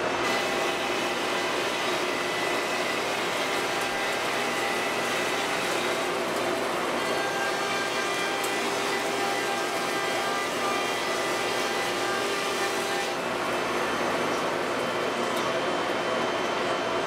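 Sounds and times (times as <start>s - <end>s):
cnc router planing wood: 0.0s - 17.0s.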